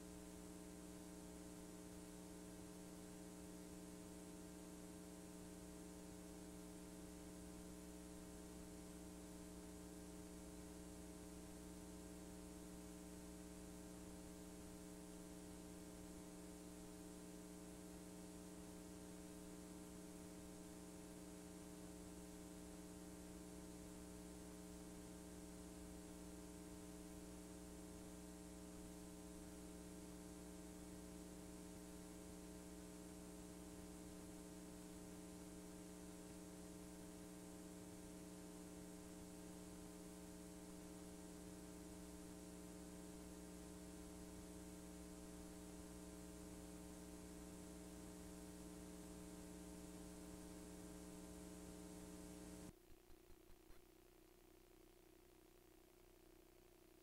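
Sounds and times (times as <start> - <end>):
faint mains hum: 0.0 - 57.0
tape hiss: 0.0 - 57.0.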